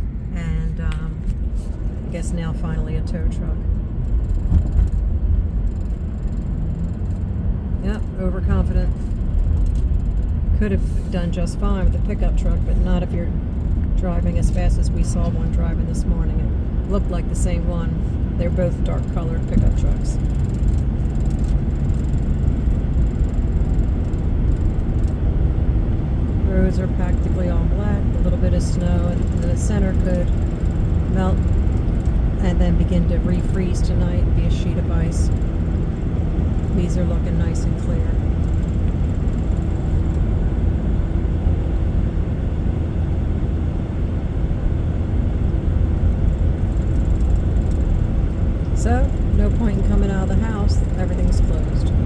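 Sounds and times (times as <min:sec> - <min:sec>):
car interior driving rumble: 0:00.0 - 0:52.0.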